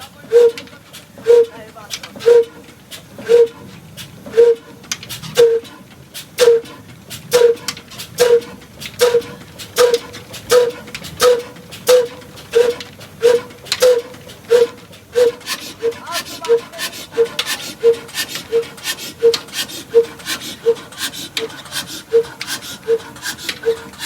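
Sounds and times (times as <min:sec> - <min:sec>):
diesel engine exhaust beats: 0:00.0 - 0:24.0.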